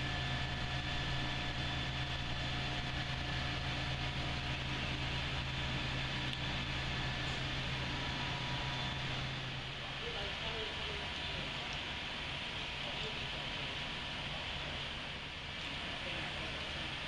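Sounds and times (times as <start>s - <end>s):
faint whining tones: 0.0s - 15.7s
machinery hum and hiss: 0.0s - 17.0s.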